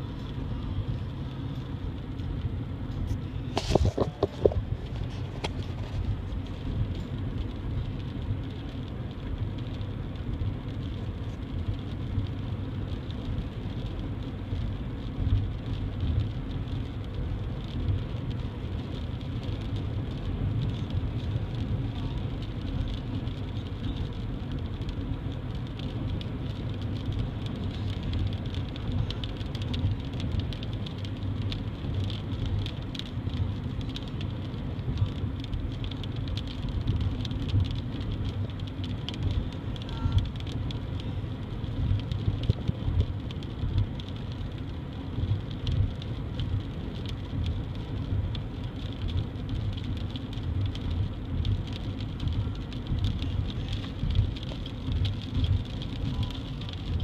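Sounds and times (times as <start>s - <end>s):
car cabin road rumble: 0.0s - 57.0s
raindrops ticking on windshield: 0.0s - 57.0s.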